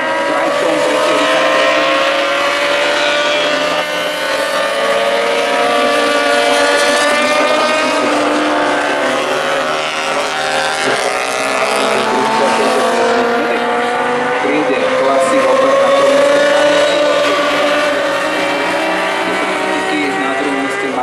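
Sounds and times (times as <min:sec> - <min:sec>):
racing motorcycle engines: 0:00.0 - 0:21.0.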